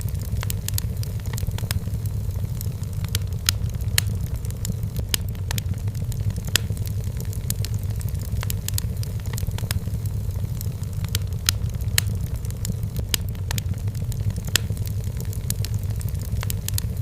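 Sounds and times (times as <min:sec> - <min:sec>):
firewood crackling and popping: 0:00.0 - 0:17.0
low rumble of flames: 0:00.0 - 0:17.0.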